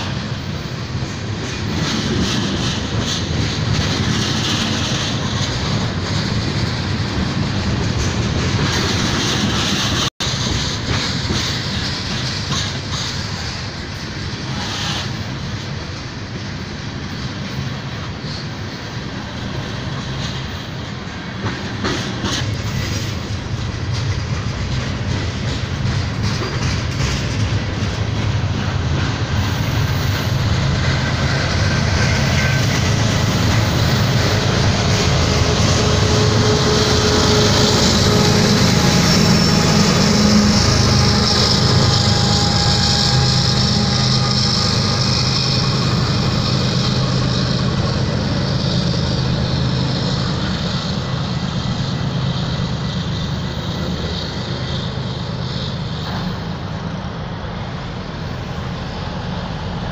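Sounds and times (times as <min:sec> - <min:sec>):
freight train wheels rumbling: 0:00.0 - 0:59.9
wheels squealing on rail: 0:00.0 - 0:59.9.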